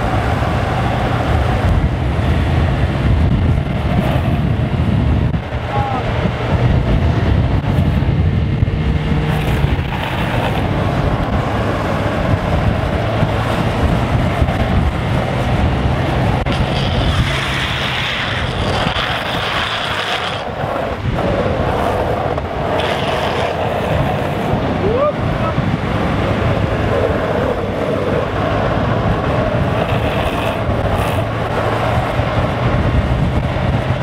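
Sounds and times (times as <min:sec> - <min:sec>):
road rumble: 0:00.0 - 0:34.0
wind rushing over microphone: 0:00.0 - 0:34.0.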